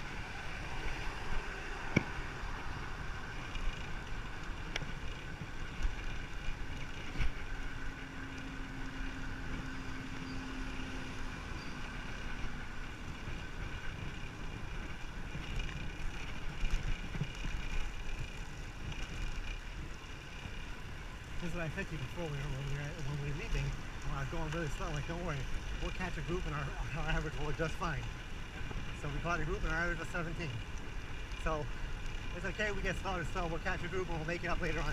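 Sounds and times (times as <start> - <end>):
bicycle road noise: 0.0 - 34.9.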